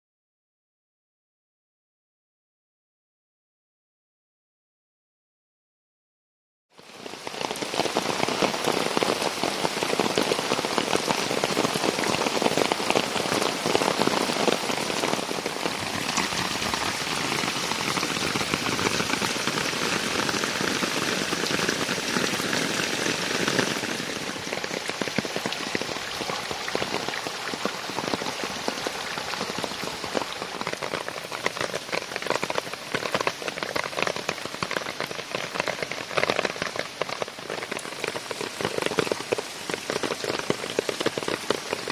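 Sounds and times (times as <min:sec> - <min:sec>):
rain falling steadily: 0:06.8 - 0:41.9.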